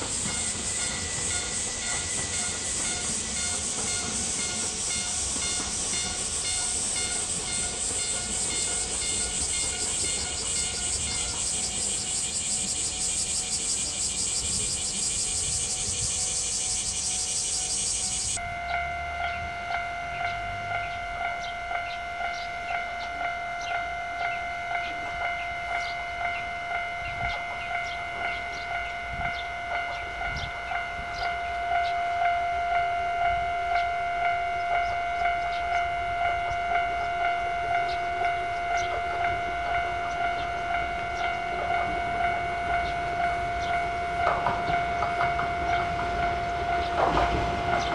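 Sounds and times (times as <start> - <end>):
higher ringing: 0.0 - 47.9
level crossing bell clanging: 0.0 - 47.9.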